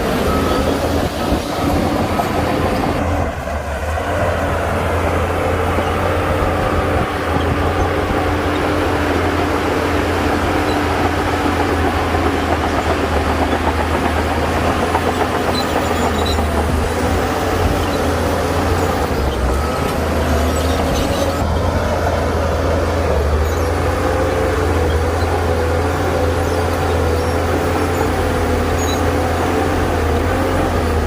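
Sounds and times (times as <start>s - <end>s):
diesel machinery engine drone: 0.0s - 31.0s.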